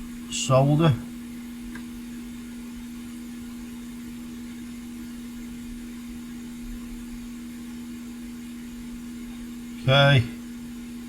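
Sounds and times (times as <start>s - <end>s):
blower fan humming and hissing: 0.0s - 11.0s.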